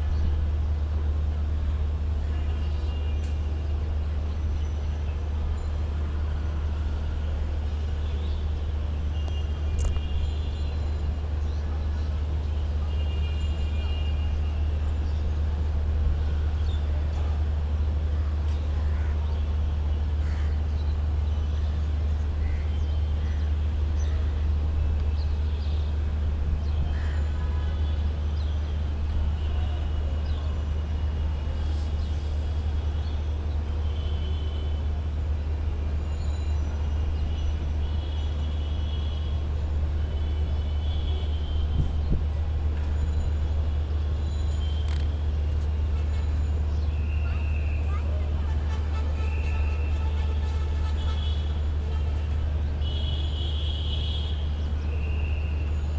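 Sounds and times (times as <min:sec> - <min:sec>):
road traffic rumble: 0:00.0 - 0:55.9.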